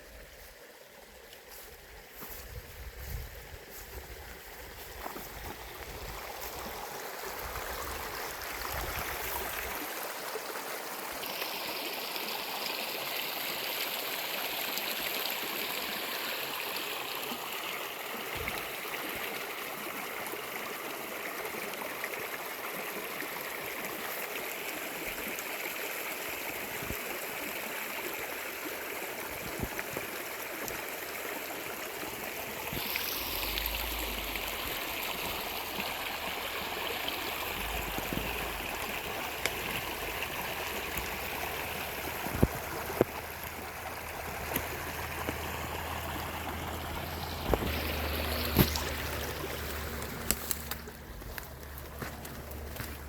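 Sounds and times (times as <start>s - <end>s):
mountain river rushing: 3.7s - 53.0s.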